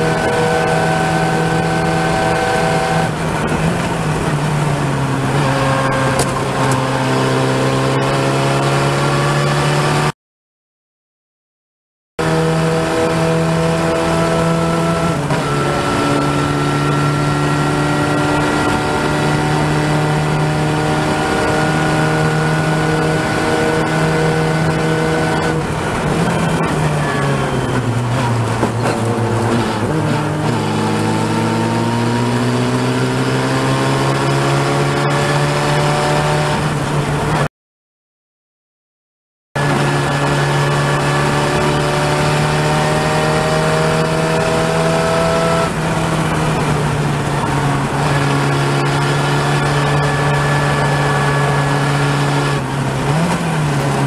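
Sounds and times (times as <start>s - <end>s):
race car engine at speed: 0.0s - 10.1s, 12.2s - 37.5s, 39.6s - 54.0s
rushing wind: 0.0s - 10.1s, 12.2s - 37.5s, 39.6s - 54.0s.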